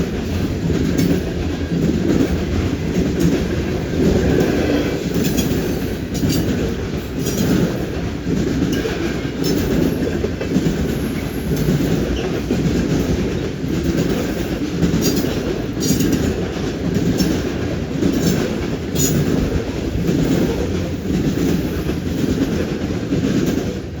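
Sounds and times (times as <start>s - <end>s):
train wheels clacking on rail joints: 0.0s - 24.0s.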